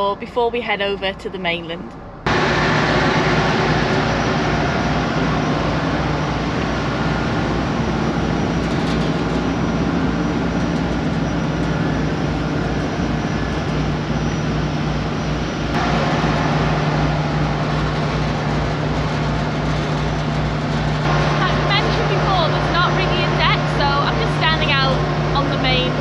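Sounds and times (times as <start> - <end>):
ship engines droning: 0.0 - 26.0.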